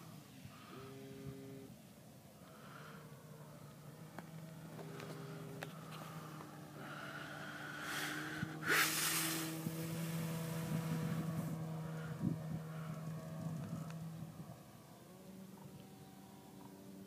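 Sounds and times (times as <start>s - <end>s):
model plane propeller droning: 0.0s - 17.0s.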